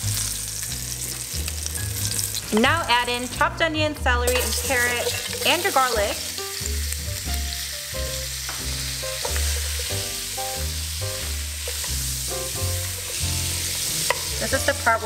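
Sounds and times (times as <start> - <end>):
background music with bass line: 0.0 - 15.0
vegetables sizzling in oil: 0.0 - 15.0.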